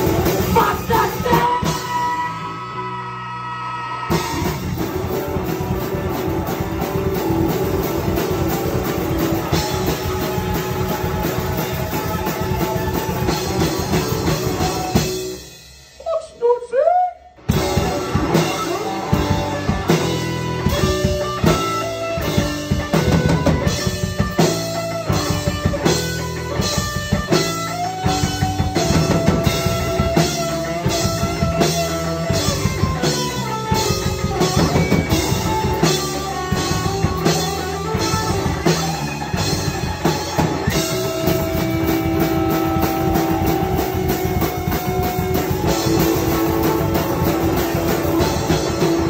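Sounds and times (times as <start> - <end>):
rock band playing: 0.0 - 49.0.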